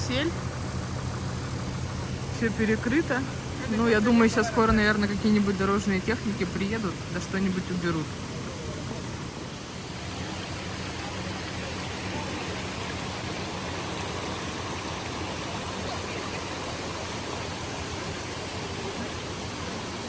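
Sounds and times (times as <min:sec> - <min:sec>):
rush of flowing water: 0:00.0 - 0:20.0.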